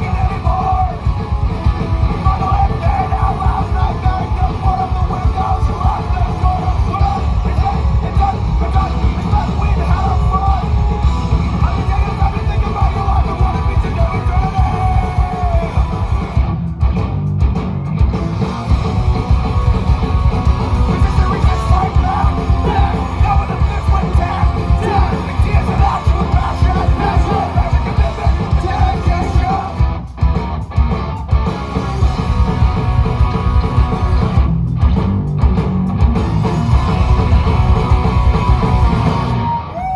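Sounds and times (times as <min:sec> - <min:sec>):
yelled lead vocals: 0:00.0 - 0:16.9, 0:18.0 - 0:39.9
drums: 0:00.0 - 0:39.9
punk rock guitars: 0:00.0 - 0:39.9.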